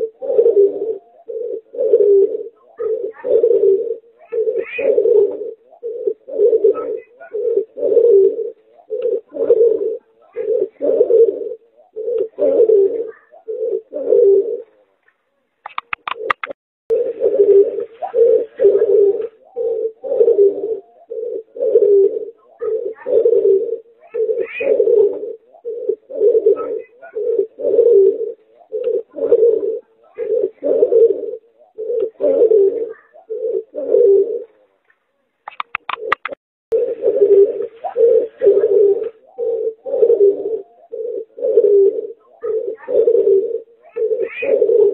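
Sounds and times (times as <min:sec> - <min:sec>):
dove cooing: 0:00.0 - 0:14.9, 0:15.7 - 0:34.8, 0:35.5 - 0:44.9.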